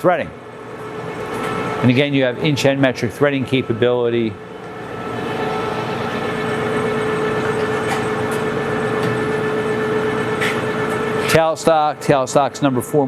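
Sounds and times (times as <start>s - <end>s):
lathe gear-train hum: 0.4s - 13.0s.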